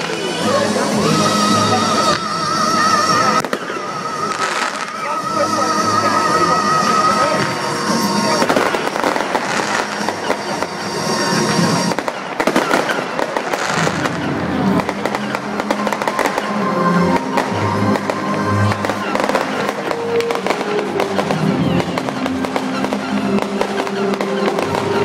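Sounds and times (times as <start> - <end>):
fireworks crackles pops and bangs: 0.0 - 25.0.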